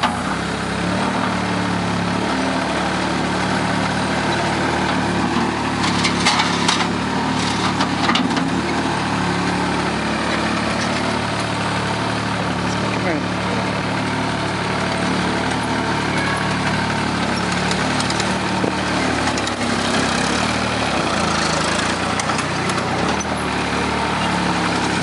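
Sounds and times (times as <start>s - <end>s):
track loader engine idling: 0.0s - 25.0s.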